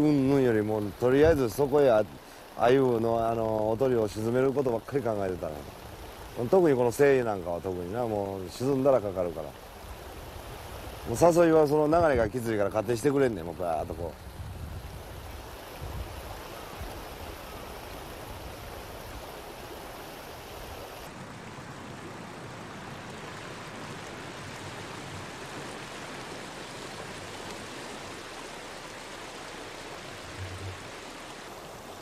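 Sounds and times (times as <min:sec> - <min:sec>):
river rushing over stones: 0:00.0 - 0:32.0.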